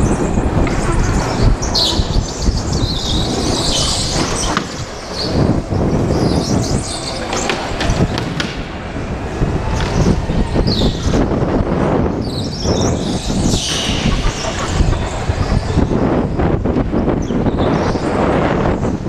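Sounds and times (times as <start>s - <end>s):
go-kart engine rumble: 0.0s - 19.0s.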